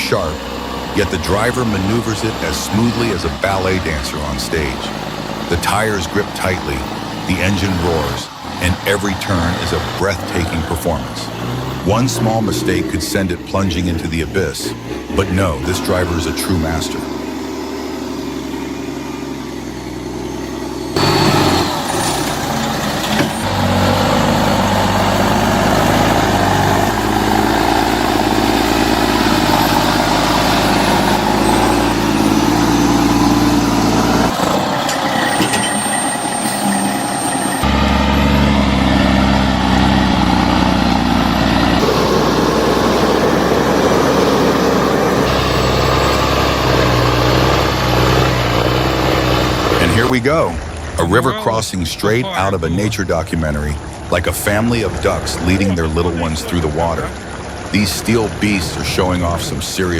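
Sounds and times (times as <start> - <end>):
heavy truck engines under load: 0.0 - 59.9.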